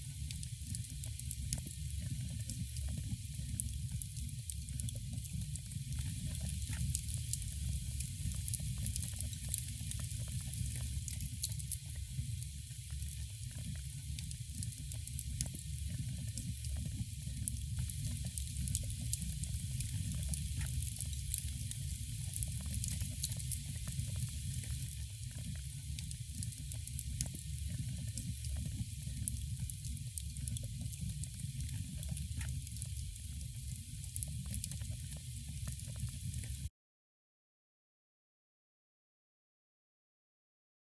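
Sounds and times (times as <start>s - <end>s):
wood fire crackling and popping: 0.3s - 36.5s.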